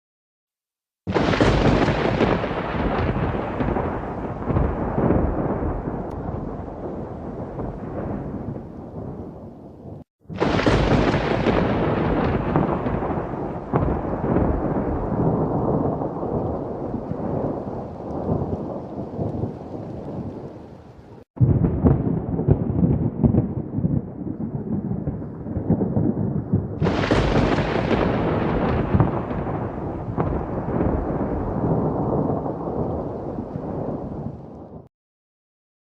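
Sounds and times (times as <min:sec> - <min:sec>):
sharp crack of thunder: 0:01.1 - 0:20.6, 0:21.3 - 0:34.9
rain: 0:01.1 - 0:34.9
thunder rumbling: 0:01.1 - 0:34.9.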